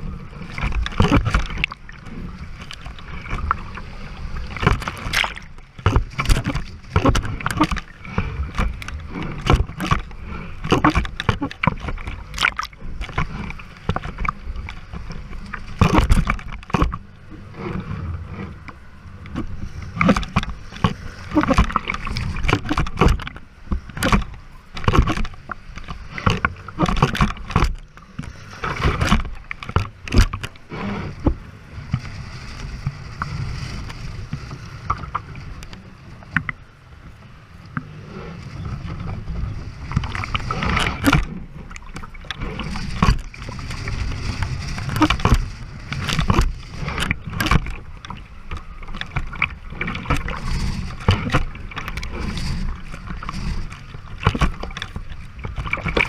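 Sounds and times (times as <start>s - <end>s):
waves splashing against hull: 0.0s - 56.0s.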